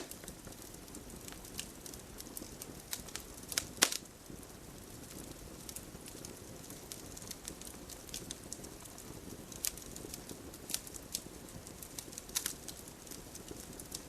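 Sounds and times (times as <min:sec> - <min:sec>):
campfire crackling and popping: 0:00.0 - 0:14.0
low hiss of burning fire: 0:00.0 - 0:14.0.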